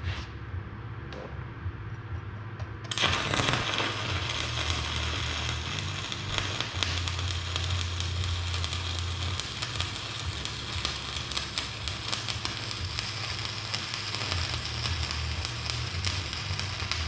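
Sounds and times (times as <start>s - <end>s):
low steady hum: 0.0s - 17.0s
welding arc crackling: 2.9s - 17.0s.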